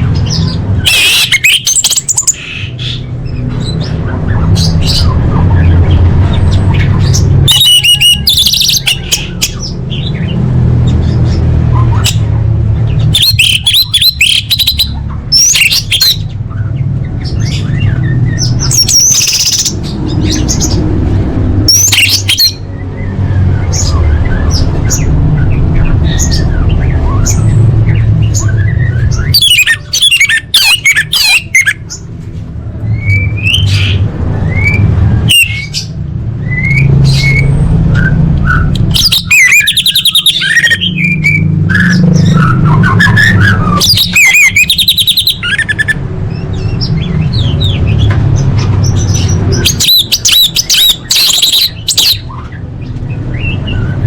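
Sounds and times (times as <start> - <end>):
thrush singing trills and whistles: 0.0 - 20.9, 21.6 - 32.1, 32.8 - 54.0.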